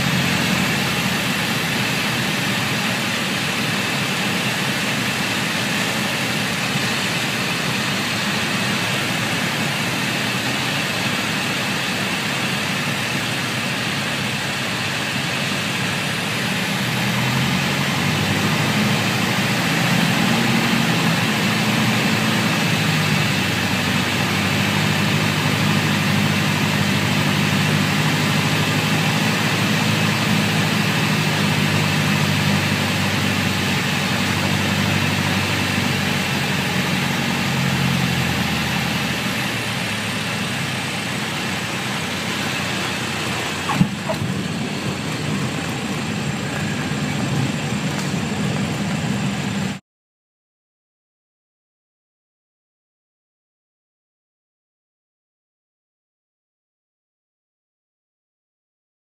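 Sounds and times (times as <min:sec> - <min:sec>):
airplane engine and propeller droning: 0:00.0 - 0:49.8.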